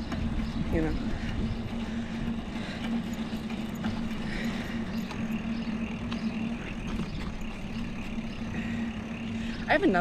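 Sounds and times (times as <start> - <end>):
bicycle road rumble: 0.0 - 10.0
steady low hum: 0.0 - 10.0
wind: 0.0 - 10.0.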